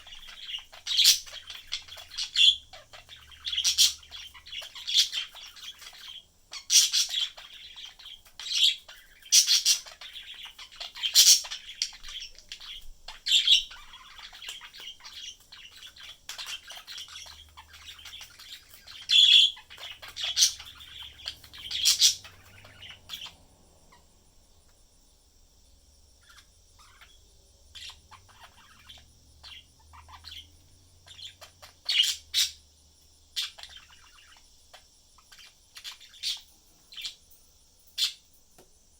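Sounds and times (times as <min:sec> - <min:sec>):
budgerigars chirping: 0:00.0 - 0:24.2, 0:26.2 - 0:37.2.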